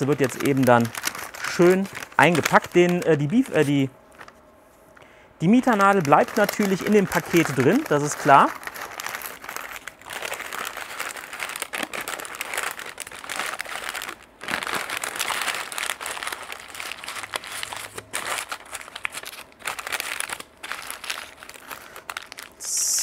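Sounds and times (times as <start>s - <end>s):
paper rustling and crinkling: 0.0s - 4.4s, 5.5s - 22.6s.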